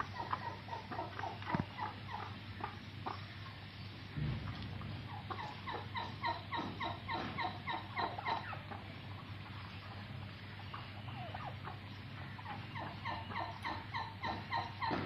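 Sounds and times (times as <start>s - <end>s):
turkeys calling: 0.0s - 15.0s.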